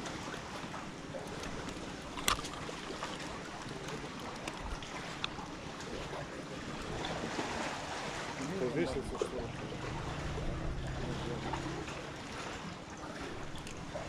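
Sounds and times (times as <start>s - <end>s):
surf washing on beach: 0.0s - 14.0s.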